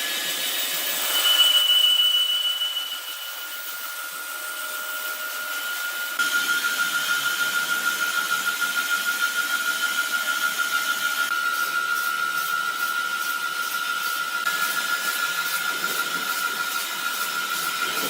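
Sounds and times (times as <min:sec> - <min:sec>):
sawmill saw whining: 0:00.0 - 0:18.0.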